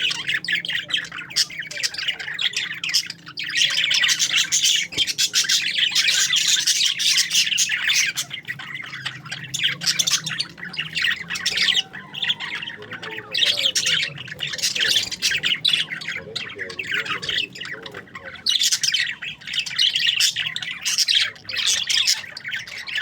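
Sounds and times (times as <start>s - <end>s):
parakeets chattering and squawking: 0.0s - 23.0s.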